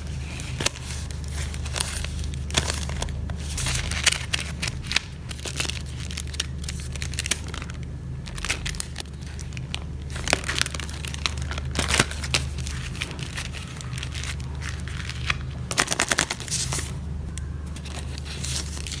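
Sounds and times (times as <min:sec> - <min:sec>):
paper crinkling: 0:00.0 - 0:19.0.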